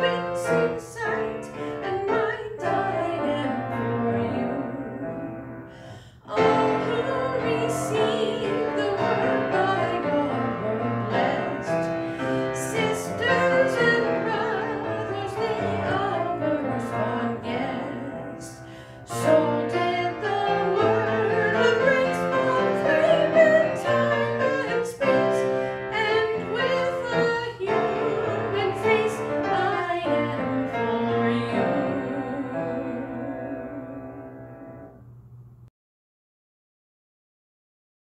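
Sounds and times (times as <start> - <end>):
woman singing a hymn: 0.0 - 34.9
grand piano: 0.0 - 35.2.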